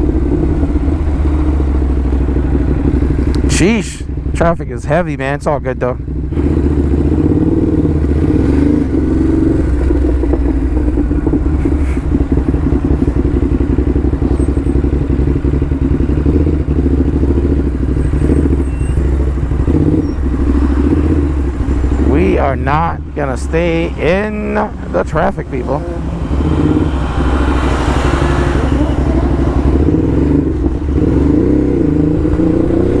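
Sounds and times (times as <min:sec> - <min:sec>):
motorcycle engine idling low revs: 0:00.0 - 0:33.0.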